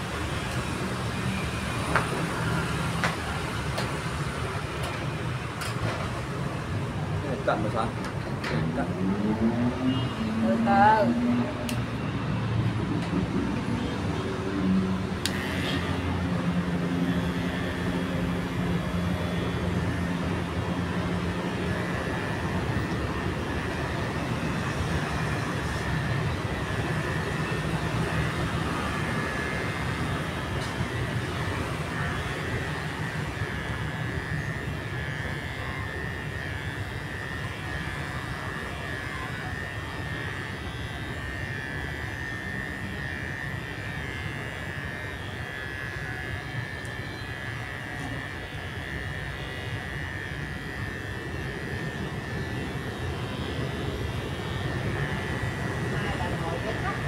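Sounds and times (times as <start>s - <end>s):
electric hair clippers humming: 0.0s - 57.0s.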